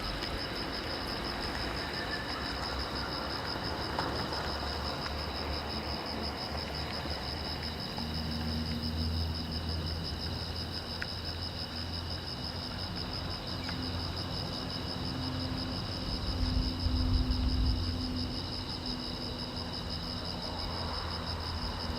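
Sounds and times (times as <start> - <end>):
crickets chirping: 0.0 - 21.9.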